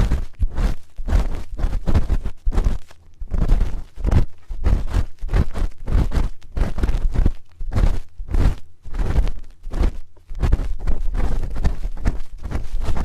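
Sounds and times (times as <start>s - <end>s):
spoon scraping a microphone: 0.0s - 13.0s.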